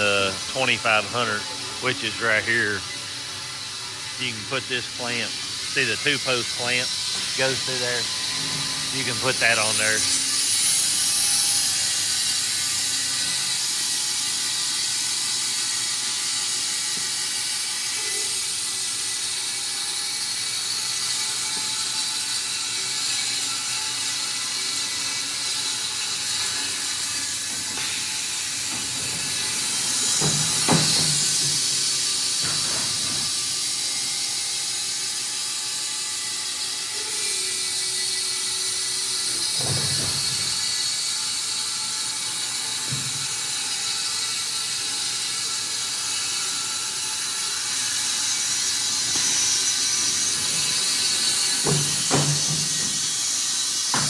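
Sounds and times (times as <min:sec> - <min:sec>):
band sawmill whining: 0:00.0 - 0:16.2, 0:16.8 - 0:54.0.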